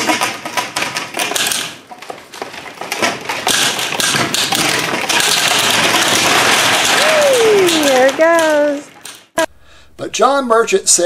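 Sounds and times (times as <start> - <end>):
plastic pipes knocking and clattering: 0.0 - 9.5.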